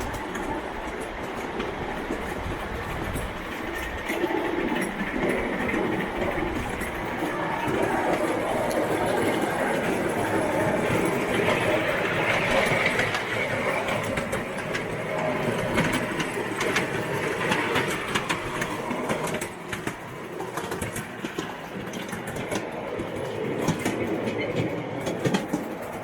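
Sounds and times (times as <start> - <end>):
model train wheels clicking on rails: 0.0 - 26.0.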